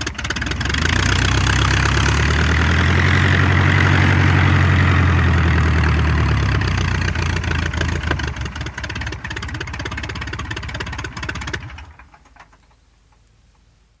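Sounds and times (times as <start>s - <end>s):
propeller plane engine running down: 0.0s - 13.3s.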